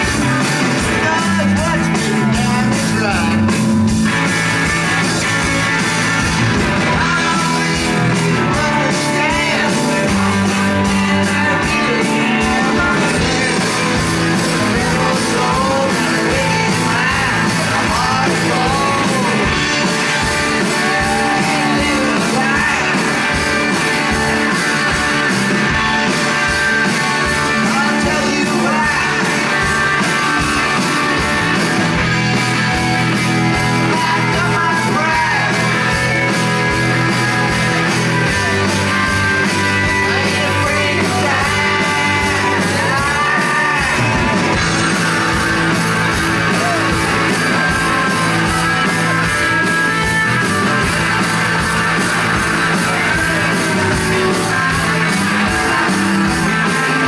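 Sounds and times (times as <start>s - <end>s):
man singing: 0.0s - 3.7s, 6.7s - 57.0s
bass guitar: 0.0s - 57.0s
drum kit beat: 0.0s - 57.0s
electric guitar: 0.0s - 57.0s.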